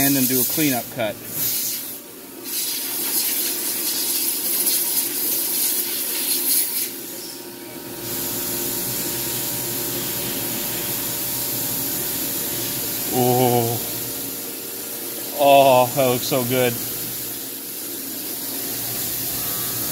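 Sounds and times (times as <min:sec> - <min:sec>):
coolant spray hissing: 0:00.0 - 0:07.4, 0:08.0 - 0:19.9
milling machine hum: 0:00.0 - 0:19.9.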